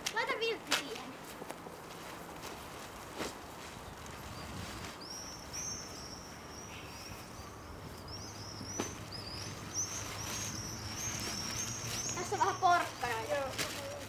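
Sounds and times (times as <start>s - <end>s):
small birds chirping: 1.8s - 14.0s.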